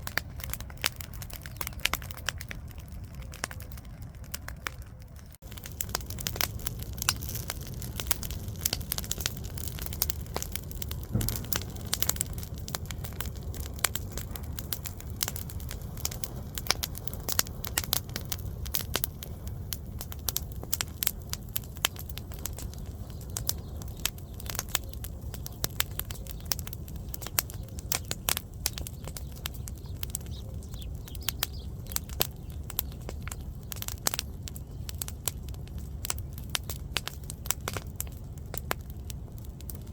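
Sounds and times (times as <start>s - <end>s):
burning wood crackling: 0.0s - 39.9s
low rumble of flames: 0.0s - 39.9s.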